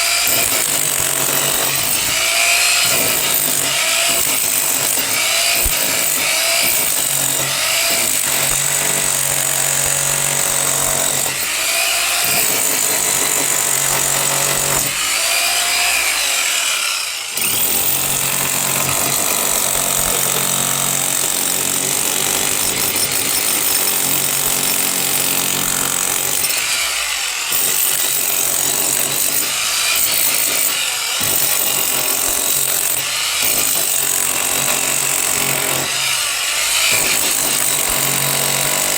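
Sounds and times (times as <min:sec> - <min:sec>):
power tool running: 0:00.0 - 0:38.9.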